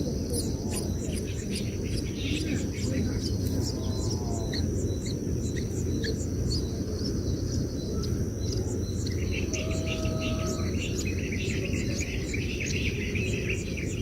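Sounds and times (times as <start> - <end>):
constant low rumble: 0.0 - 14.0
steady high-pitched whine: 0.0 - 14.0.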